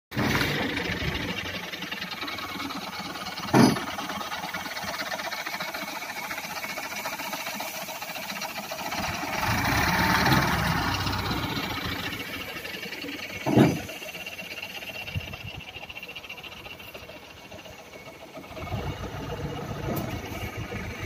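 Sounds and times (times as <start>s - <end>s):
heavy machinery engine running: 0.1s - 21.0s.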